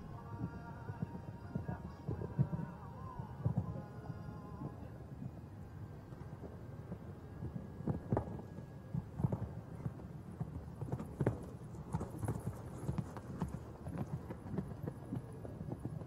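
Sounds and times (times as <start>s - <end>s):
horse hoofbeats on sand: 0.2s - 4.8s, 6.4s - 16.0s.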